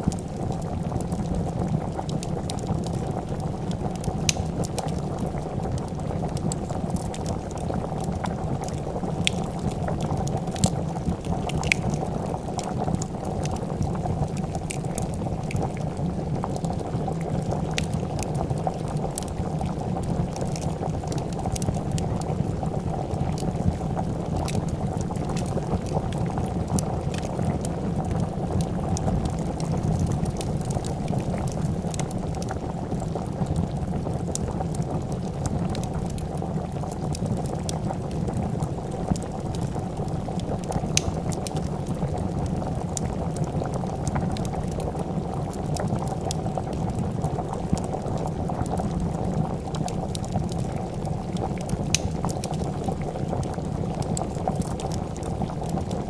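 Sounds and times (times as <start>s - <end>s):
soup boiling: 0.0s - 56.0s
wood fire crackling: 0.0s - 56.0s.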